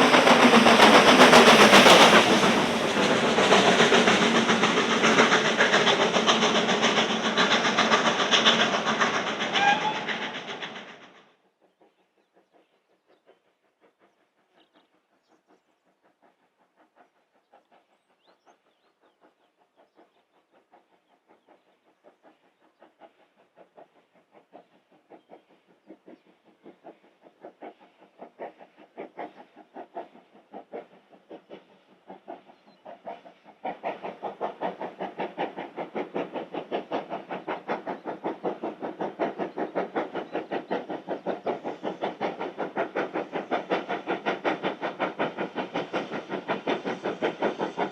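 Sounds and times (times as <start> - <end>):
steam locomotive exhaust beats: 0.0 - 11.2, 11.8 - 47.9.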